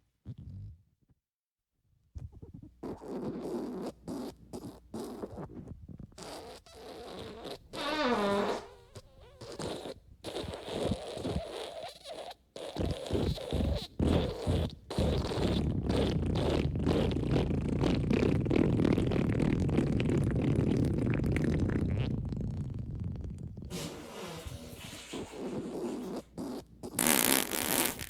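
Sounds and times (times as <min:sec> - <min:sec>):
fart sound effects: 0:02.2 - 0:28.0.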